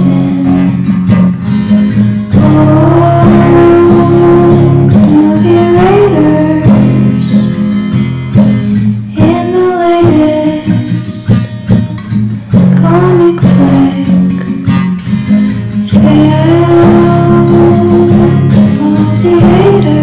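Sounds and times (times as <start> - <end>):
person singing: 0.0 - 8.0, 9.1 - 20.0
guitar: 0.0 - 20.0.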